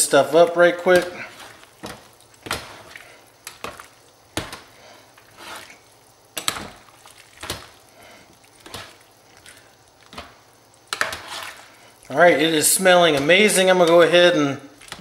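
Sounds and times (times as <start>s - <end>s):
wet squelching of food: 0.8s - 15.0s.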